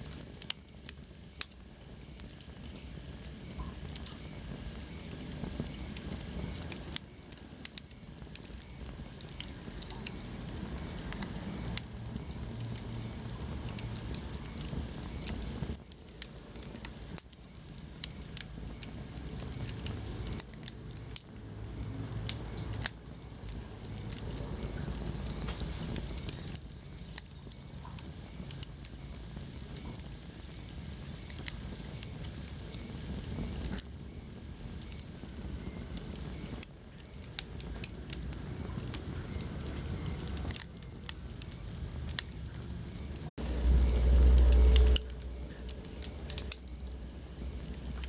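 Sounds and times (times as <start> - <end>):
wood fire crackling and popping: 0.0 - 48.0.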